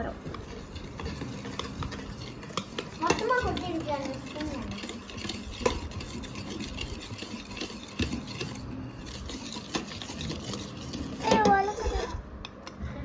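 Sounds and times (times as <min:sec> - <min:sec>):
whisk stirring batter in bowl: 0:00.0 - 0:12.8
whisk clinking against bowl: 0:00.2 - 0:12.7.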